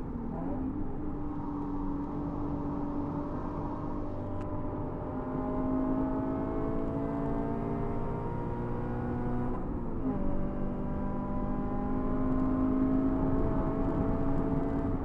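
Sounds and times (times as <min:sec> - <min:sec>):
car engine at full throttle: 0:00.0 - 0:15.0
road noise: 0:00.0 - 0:15.0.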